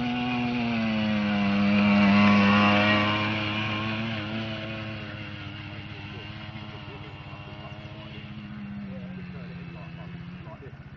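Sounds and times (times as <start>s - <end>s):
quad bike engine passing by: 0.0s - 10.9s.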